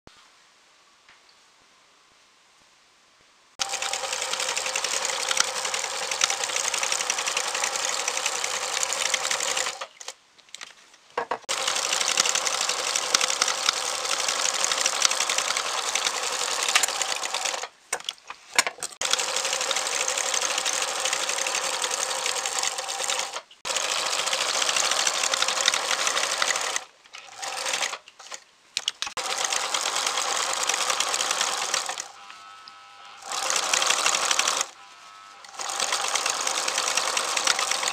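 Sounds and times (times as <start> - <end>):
electric sewing machine stitching: 3.6 - 9.9, 11.5 - 17.7, 18.9 - 28.4, 29.1 - 37.9.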